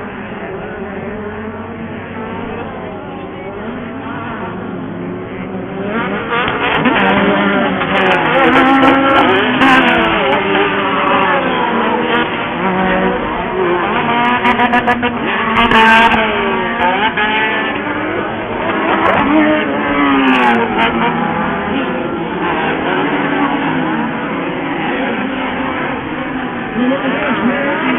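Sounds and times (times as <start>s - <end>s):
buggy engines revving: 0.0s - 27.9s.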